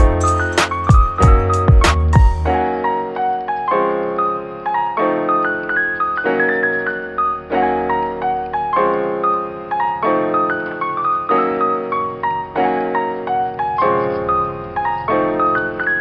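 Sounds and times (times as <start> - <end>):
piano tune: 0.0 - 16.0.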